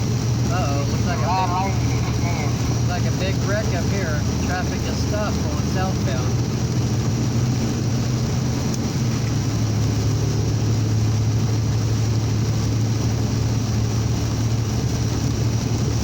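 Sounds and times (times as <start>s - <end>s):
low engine drone: 0.0s - 16.0s
road and wind noise: 0.0s - 16.0s.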